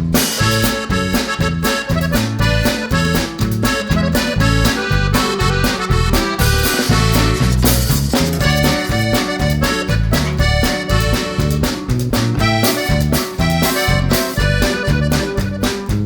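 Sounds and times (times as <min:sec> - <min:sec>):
music with reedy melody: 0:00.0 - 0:16.0.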